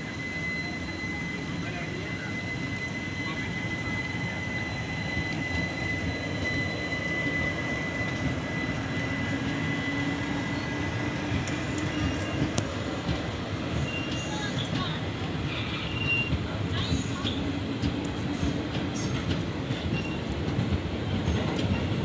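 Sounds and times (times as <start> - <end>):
train rumble with high whine: 0.0 - 22.0.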